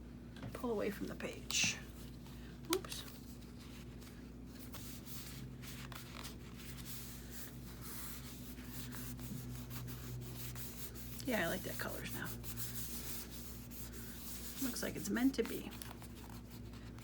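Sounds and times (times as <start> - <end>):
steady low hum: 0.0 - 17.0
paper rustling and rubbing: 2.8 - 17.0.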